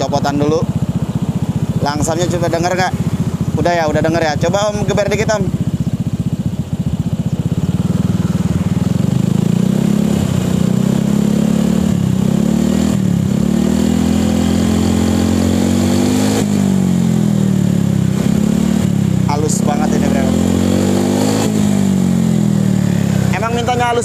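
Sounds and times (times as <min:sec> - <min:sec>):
scooter engine idling and revving: 0:00.0 - 0:24.0.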